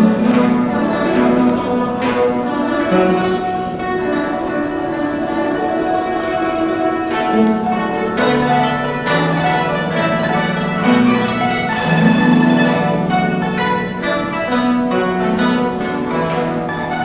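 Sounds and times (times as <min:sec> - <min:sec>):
zither plucked notes: 0:00.0 - 0:17.0.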